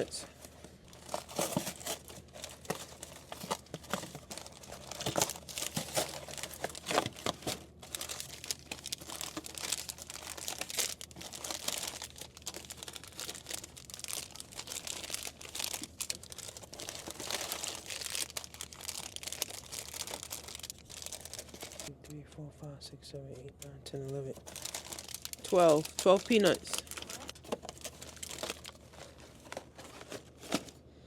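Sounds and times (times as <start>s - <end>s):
plastic snack packets crinkling: 0.0s - 21.9s, 23.5s - 30.8s.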